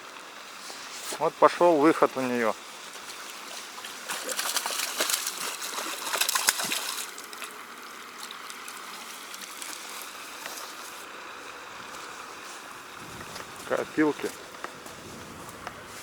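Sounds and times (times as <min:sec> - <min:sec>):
flowing stream: 0:00.0 - 0:16.0
water splashing: 0:00.4 - 0:16.0.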